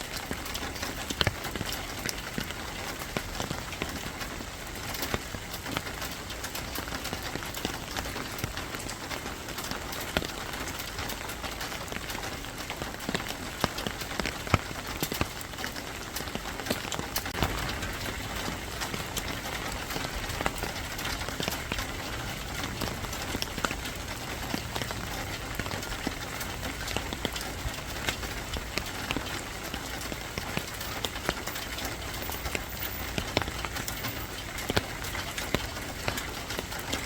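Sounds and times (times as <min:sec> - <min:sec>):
raindrops hitting a surface: 0:00.0 - 0:37.0
rain hissing: 0:00.1 - 0:37.0.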